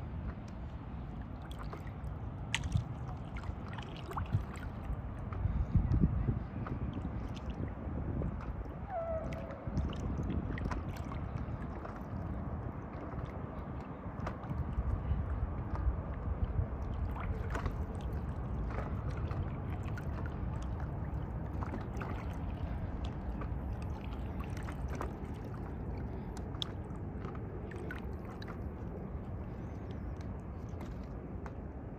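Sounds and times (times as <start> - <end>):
water lapping against paddleboard: 0.0 - 31.9
wind rumble on microphone: 0.0 - 31.9.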